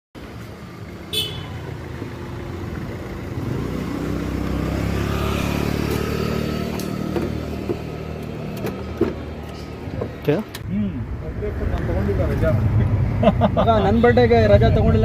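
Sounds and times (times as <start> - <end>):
engine rumbling: 0.2 - 15.0.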